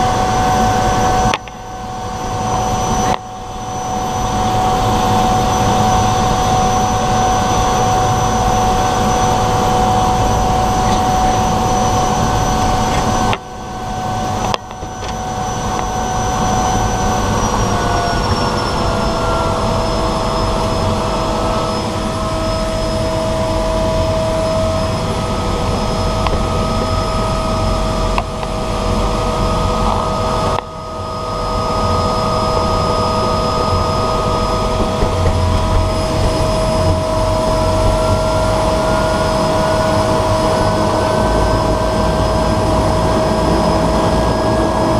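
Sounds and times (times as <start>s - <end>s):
propeller plane engine droning: 0.0s - 44.9s.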